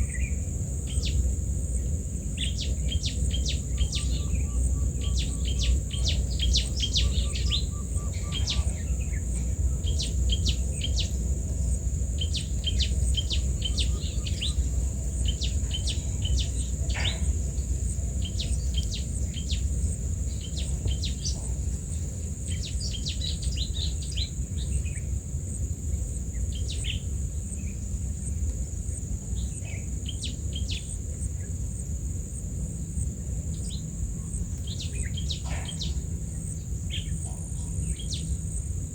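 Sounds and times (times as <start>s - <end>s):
small birds chirping: 0.0s - 31.6s, 32.9s - 38.9s.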